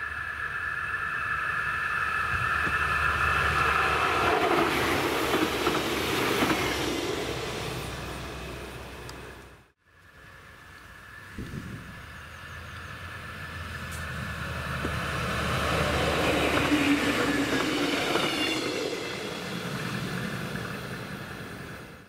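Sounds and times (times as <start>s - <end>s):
diesel train engine drone: 0.0s - 22.0s
train wheels rolling on rails: 0.0s - 22.0s.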